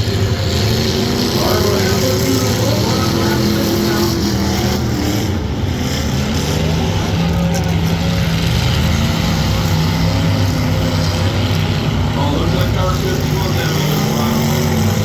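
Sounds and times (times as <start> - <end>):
car engines revving together: 0.0 - 15.0.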